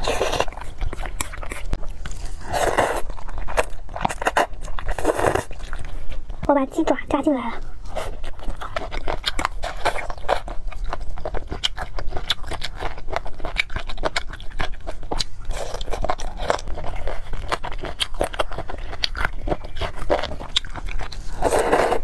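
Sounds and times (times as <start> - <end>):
person chewing crunchy food: 0.0 - 6.4, 7.5 - 22.0.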